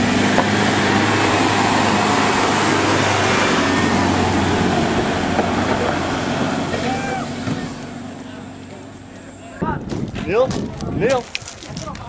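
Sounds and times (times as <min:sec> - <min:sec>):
tyres on dirt: 0:00.0 - 0:12.0.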